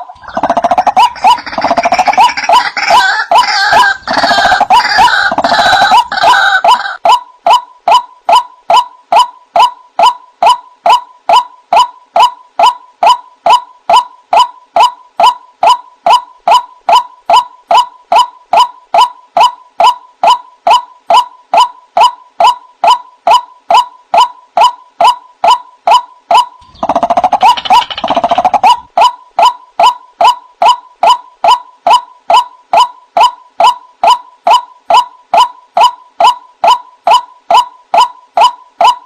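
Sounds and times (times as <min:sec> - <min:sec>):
rough overlapping bird calling: 0:00.0 - 0:39.0.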